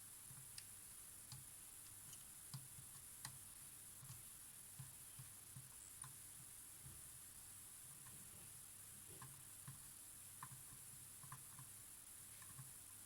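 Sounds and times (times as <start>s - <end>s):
light clicks and ticks: 0.3s - 7.0s, 9.1s - 13.0s.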